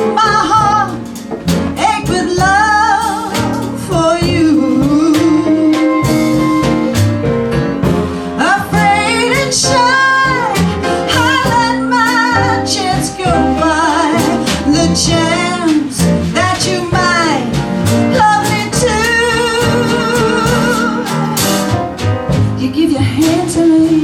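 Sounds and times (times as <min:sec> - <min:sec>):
woman singing with vibrato: 0:00.0 - 0:06.4, 0:08.4 - 0:21.8, 0:22.6 - 0:24.0
instrumental backing: 0:00.0 - 0:24.0.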